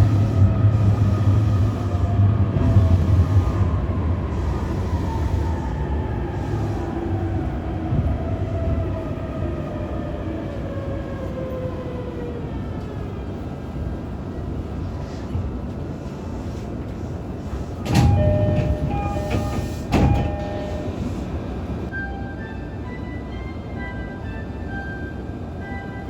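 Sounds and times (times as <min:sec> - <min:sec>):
train wheels rumbling on track: 0:00.0 - 0:21.9.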